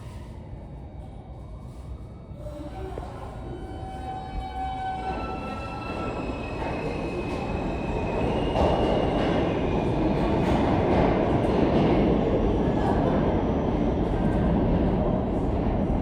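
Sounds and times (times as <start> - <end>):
subway train rumbling wheels: 0.0 - 16.0.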